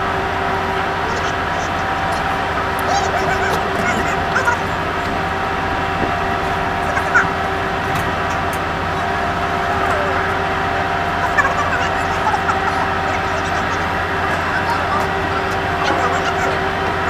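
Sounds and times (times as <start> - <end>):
faint distant voices: 0.0 - 17.0
ship machinery humming: 0.0 - 17.0.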